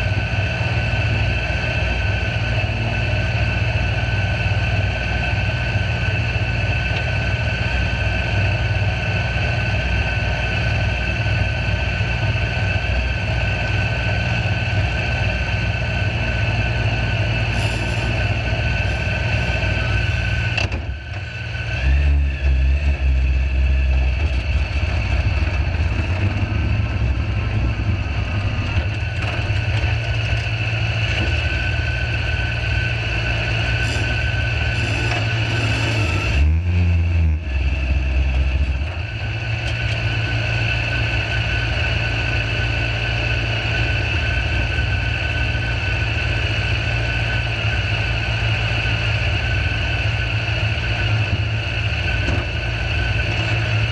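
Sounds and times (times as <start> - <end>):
constant high whine: 0.0 - 53.9
engine idling: 0.0 - 53.9.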